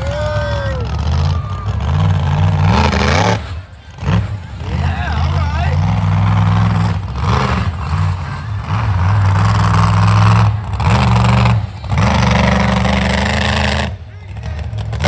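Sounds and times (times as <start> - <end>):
truck engine revving high: 0.0 - 15.0.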